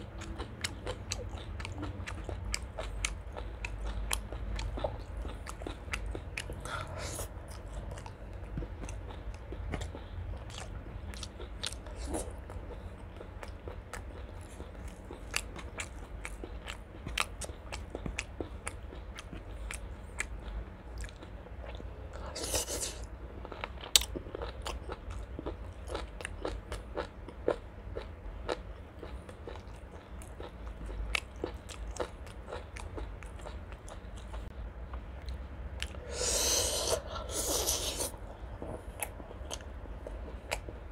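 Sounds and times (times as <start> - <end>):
chewing with wet mouth clicks: 0.0 - 21.8, 23.4 - 36.0, 37.6 - 40.8.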